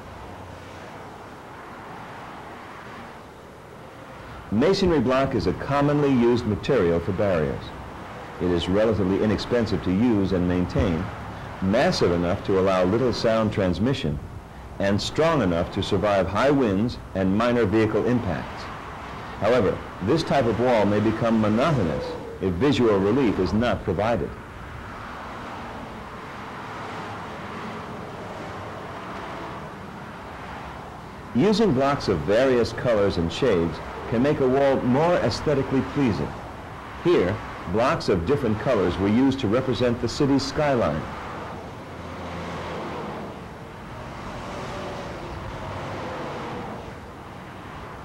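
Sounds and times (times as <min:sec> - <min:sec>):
highway traffic hiss: 0:00.0 - 0:48.0.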